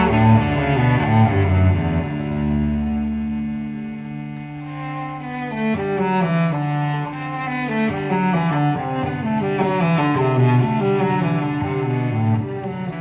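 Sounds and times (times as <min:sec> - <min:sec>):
low bowed strings music: 0:00.0 - 0:13.0.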